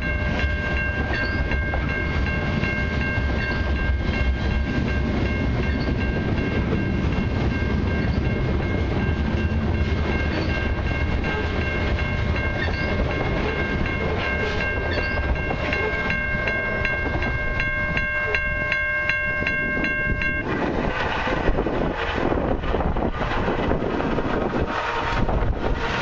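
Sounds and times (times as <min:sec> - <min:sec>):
crossing bell ringing: 0:00.0 - 0:26.0
train wheels rolling: 0:00.0 - 0:26.0.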